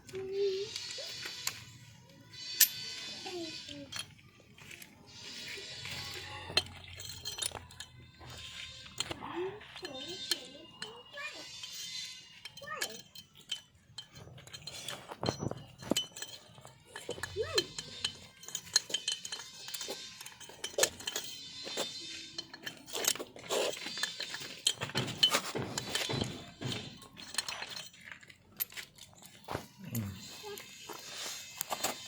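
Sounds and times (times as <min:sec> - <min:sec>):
metal tools clinking together: 0:00.0 - 0:32.0.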